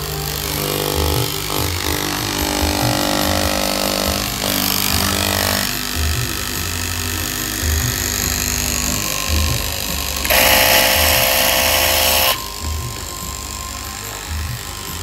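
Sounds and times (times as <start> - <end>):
background music with steady beat: 0.0 - 15.0
cloth cutting machine whining: 0.0 - 15.0.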